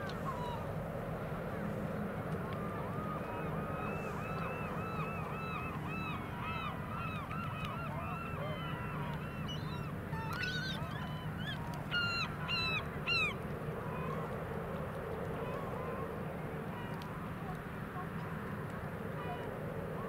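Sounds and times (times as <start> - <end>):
surf: 0.0 - 20.0
wind: 0.0 - 20.0.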